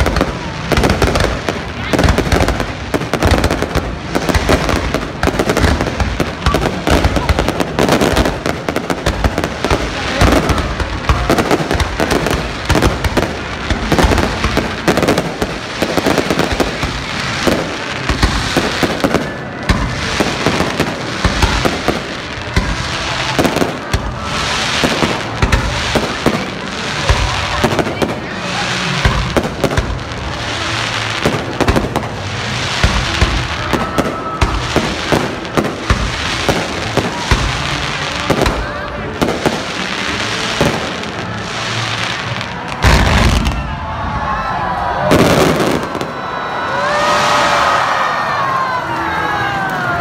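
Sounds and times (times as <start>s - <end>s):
fireworks bangs: 0.0s - 49.5s.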